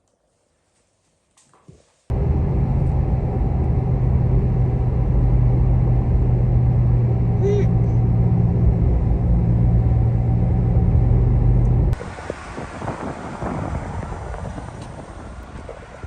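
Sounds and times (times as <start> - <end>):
low vehicle rumble: 2.1 - 16.0.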